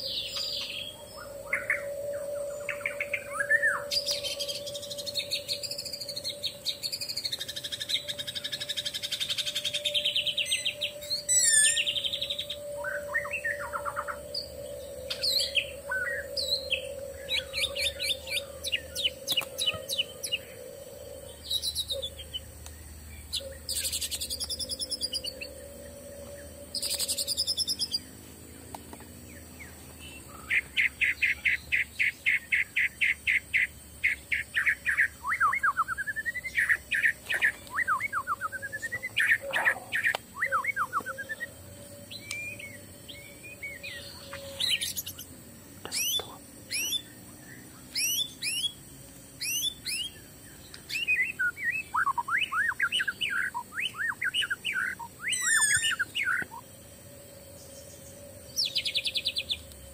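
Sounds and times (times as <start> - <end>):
forest birds singing: 0.0 - 59.9.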